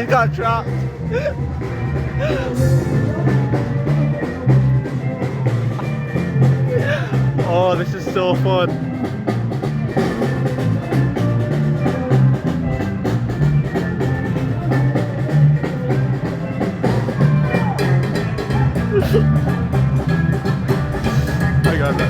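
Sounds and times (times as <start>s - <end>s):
bass line: 0.0s - 22.0s
drums and percussion: 0.0s - 22.0s
street band playing: 0.0s - 22.0s.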